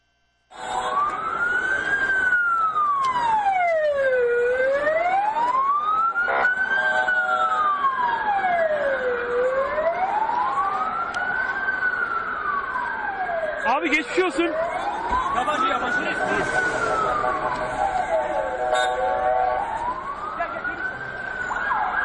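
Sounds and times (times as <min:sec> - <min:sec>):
ambulance siren wailing: 0:00.5 - 0:22.0
second fainter siren: 0:00.5 - 0:22.0.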